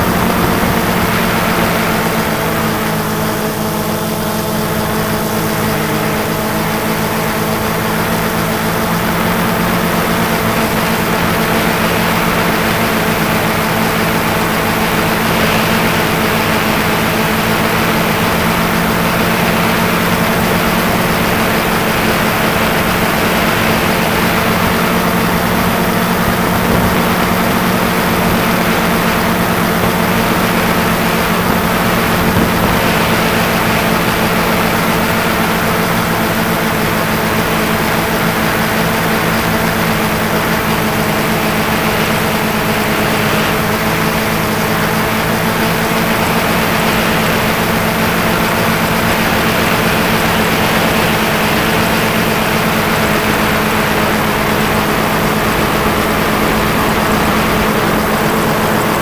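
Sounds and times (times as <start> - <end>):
drone propellers whining: 0.0 - 59.0.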